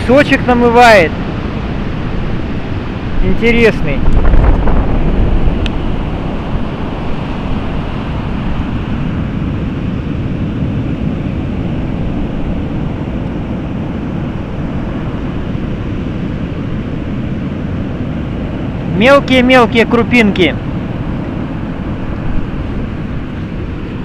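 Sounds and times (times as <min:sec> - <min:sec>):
wind buffeting microphone: 0:00.0 - 0:19.4, 0:20.1 - 0:24.0
sea surf washing onto beach: 0:00.0 - 0:24.0.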